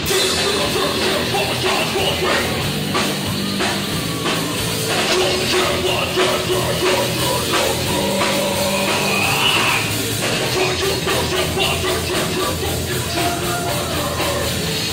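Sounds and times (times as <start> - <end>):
distorted electric guitars: 0.0 - 14.9
drum kit beat: 0.0 - 14.9.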